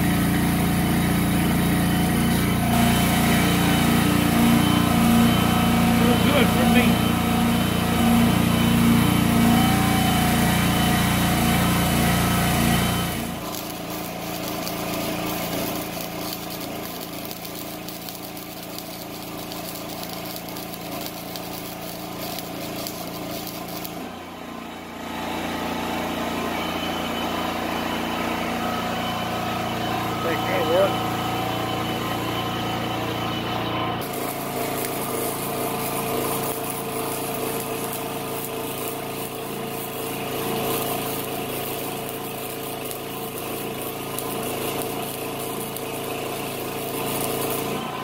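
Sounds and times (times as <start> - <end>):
welding arc crackling: 0.0 - 24.1, 29.3 - 47.9.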